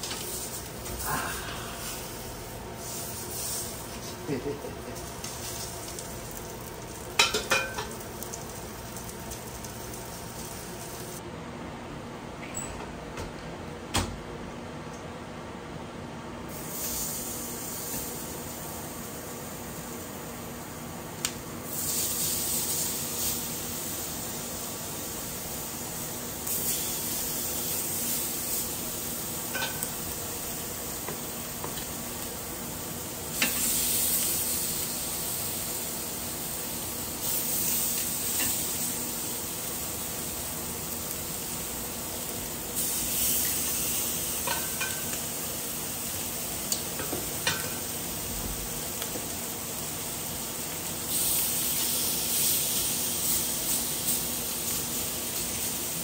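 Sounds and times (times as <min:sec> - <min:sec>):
chicken sizzling on grill pan: 0:00.0 - 0:11.2, 0:16.5 - 0:56.0.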